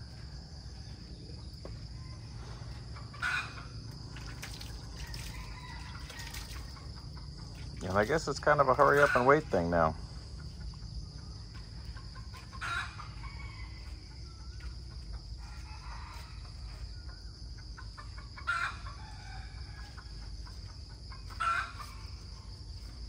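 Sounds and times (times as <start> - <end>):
chickens calling: 2.0 - 4.2, 4.8 - 23.0.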